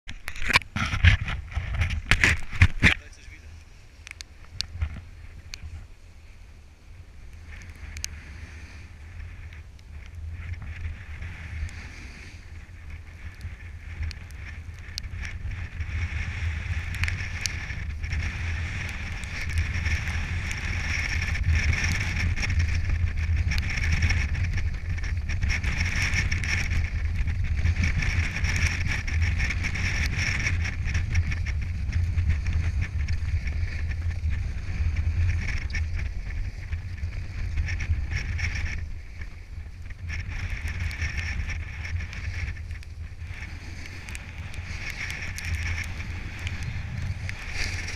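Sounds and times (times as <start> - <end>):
wind rumble on microphone: 0.0 - 47.9
snowboard scraping on snow: 0.7 - 47.9.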